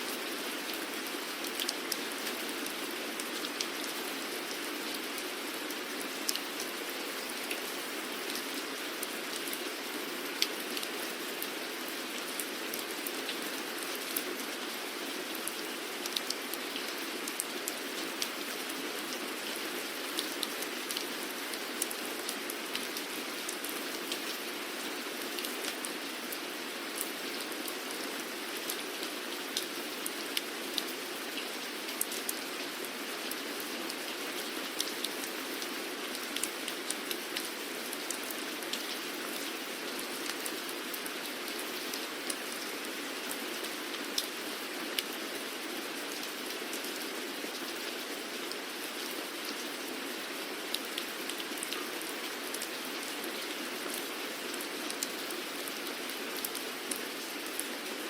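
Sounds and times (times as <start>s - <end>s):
raindrops ticking on a surface: 0.4s - 57.8s.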